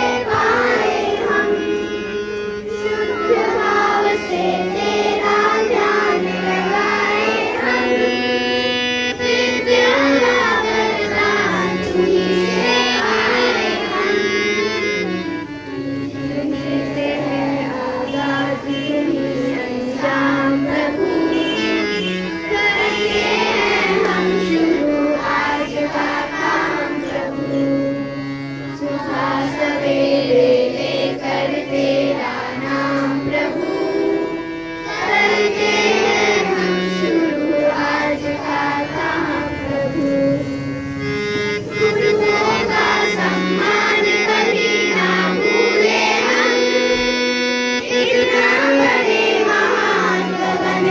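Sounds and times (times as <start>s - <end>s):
voices singing: 0.0s - 50.9s.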